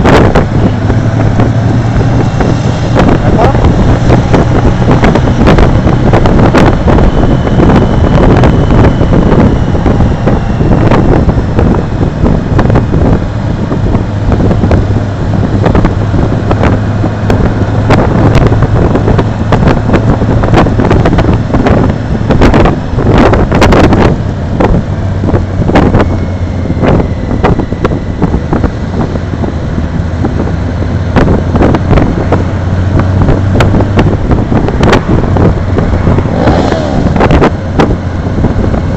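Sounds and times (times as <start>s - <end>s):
motorcycle engine drone: 0.0s - 38.9s
wind buffeting microphone: 0.0s - 38.9s.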